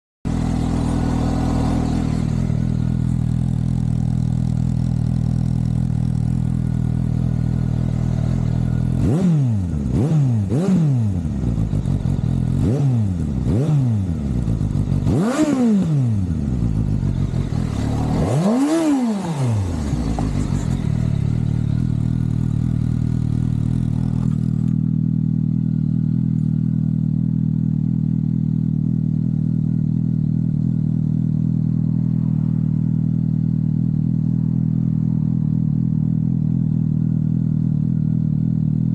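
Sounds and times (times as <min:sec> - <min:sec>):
motorcycle engine idling: 0:00.3 - 0:38.9
motorcycle engine revving: 0:00.3 - 0:38.9.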